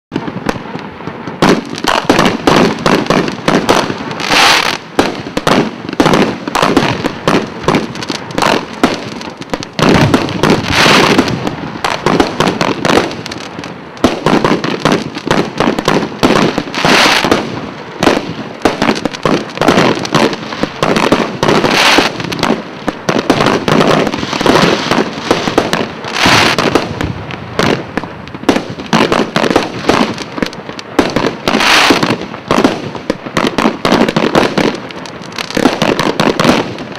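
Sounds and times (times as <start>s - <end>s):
fireworks bangs and bursts: 0.1s - 36.9s.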